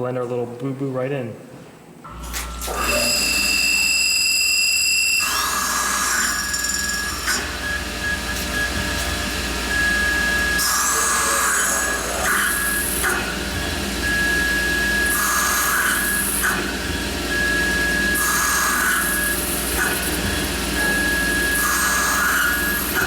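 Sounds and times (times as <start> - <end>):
lathe high whine: 2.1 - 23.0.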